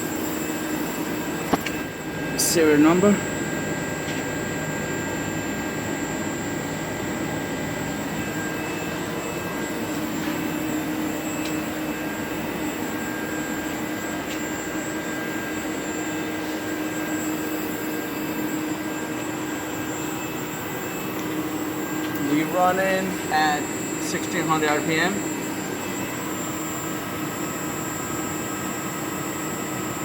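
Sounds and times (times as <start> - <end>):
milling machine spindle whine: 0.0 - 30.0.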